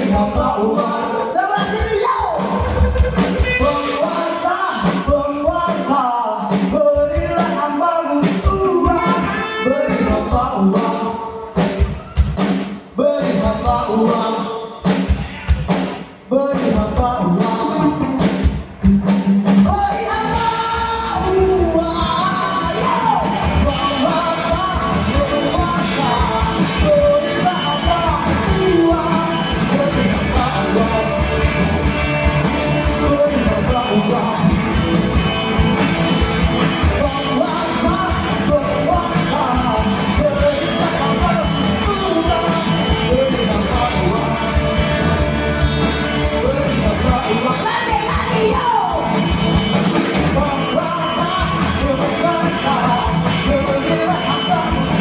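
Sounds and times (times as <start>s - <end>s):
drums: 0.0s - 55.0s
rock band music: 0.0s - 55.0s.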